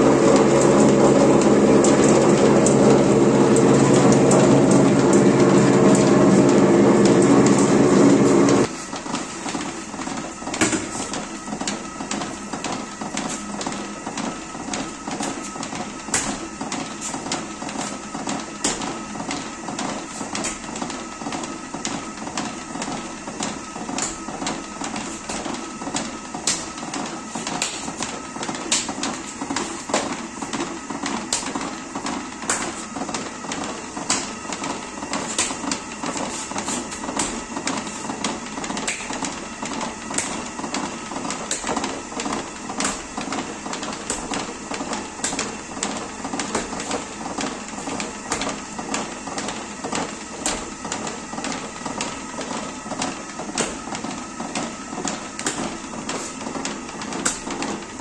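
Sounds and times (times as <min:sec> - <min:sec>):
potter's wheel humming: 0:00.0 - 0:58.0.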